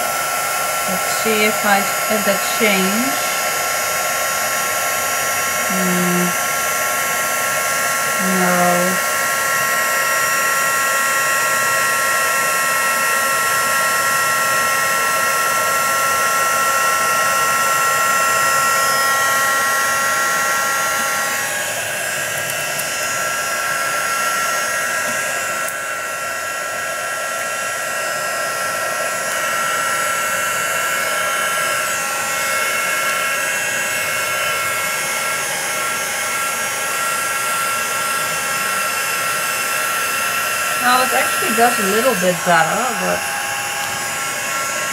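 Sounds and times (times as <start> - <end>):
heat gun blowing and whining: 0.0 - 44.9.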